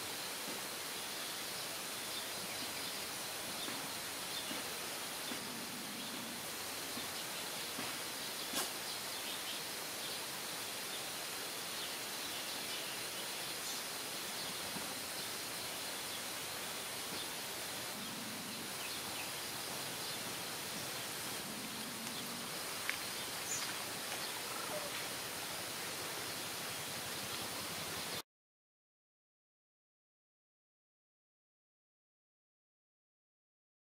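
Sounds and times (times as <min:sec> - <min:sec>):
outdoor background hiss: 0:00.0 - 0:28.2.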